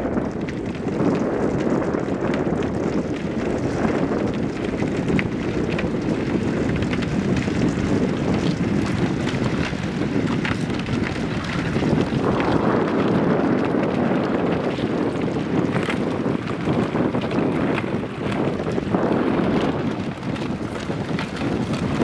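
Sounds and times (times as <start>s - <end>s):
ice cracking against floats: 0.0s - 22.0s
wind on microphone: 0.0s - 22.0s.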